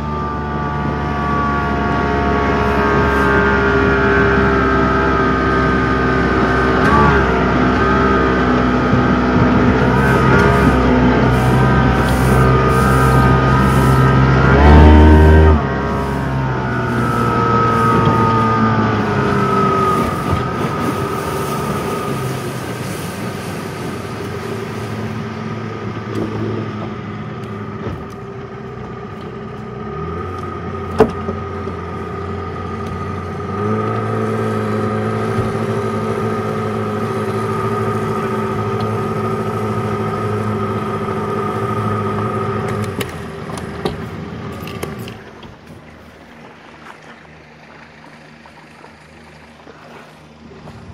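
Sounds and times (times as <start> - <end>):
outboard motor running: 0.0 - 50.9.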